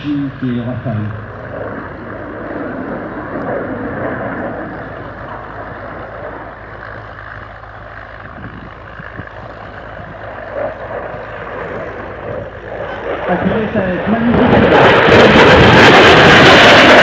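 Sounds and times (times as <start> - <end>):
distant jet engines roaring: 0.0 - 17.0.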